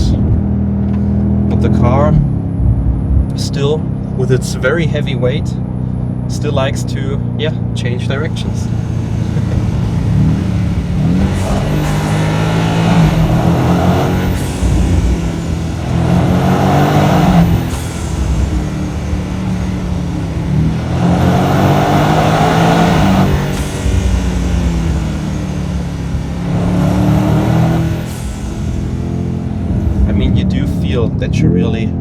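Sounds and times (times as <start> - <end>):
high whine: 0.0 - 31.4
car engine revving hard: 0.0 - 32.0.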